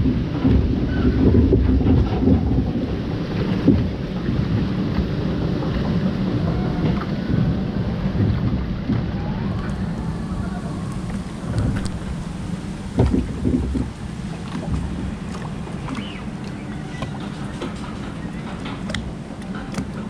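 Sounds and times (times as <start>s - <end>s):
rushing water: 0.0s - 20.0s
wind on microphone: 0.0s - 20.0s.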